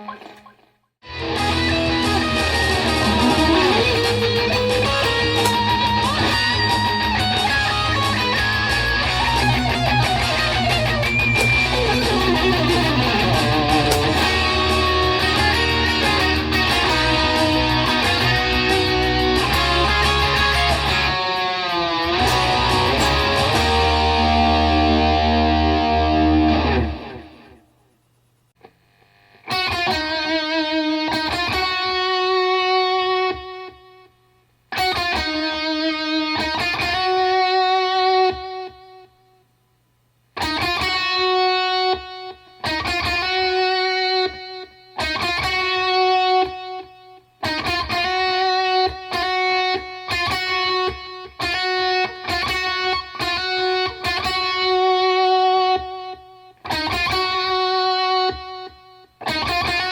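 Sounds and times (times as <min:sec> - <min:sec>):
electric guitar rock solo: 0:00.0 - 0:27.7, 0:29.2 - 0:34.1, 0:34.7 - 0:39.1, 0:40.4 - 0:59.9.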